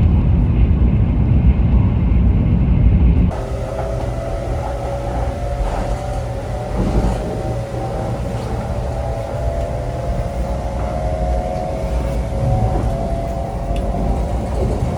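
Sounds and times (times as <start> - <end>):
train rumbling with whine: 0.0 - 14.9.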